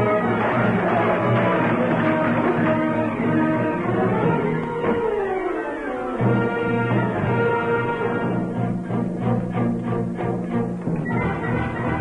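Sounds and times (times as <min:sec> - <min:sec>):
film score held notes: 0:00.0 - 0:12.0.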